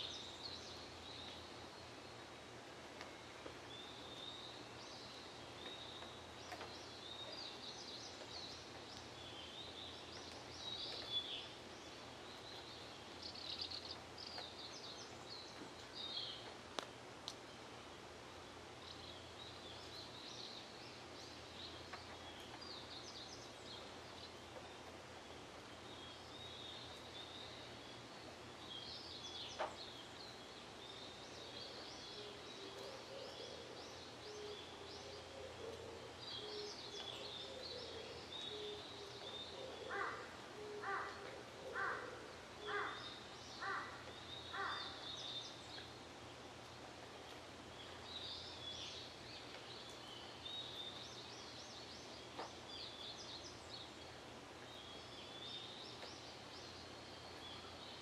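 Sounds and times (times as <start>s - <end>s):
outdoor background noise: 0.0s - 58.0s
small birds chirping: 0.0s - 58.0s.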